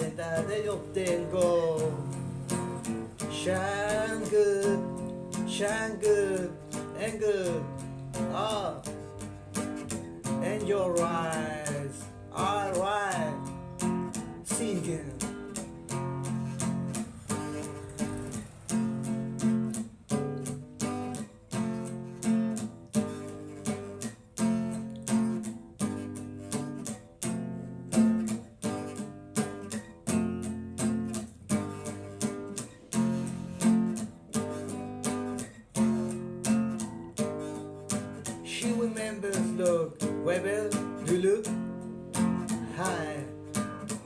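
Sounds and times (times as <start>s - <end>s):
acoustic guitar strumming chords: 0.0s - 44.0s.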